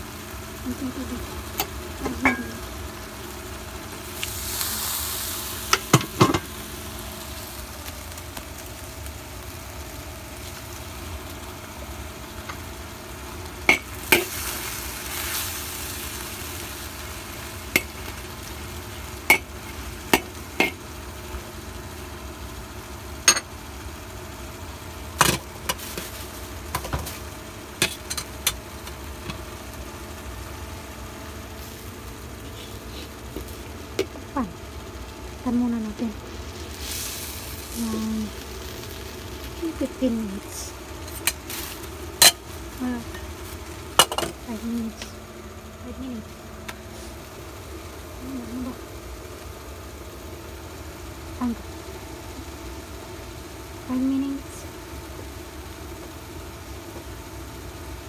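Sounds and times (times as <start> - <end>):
food sizzling in a pan: 0.0 - 58.0
steady low hum: 0.0 - 58.0.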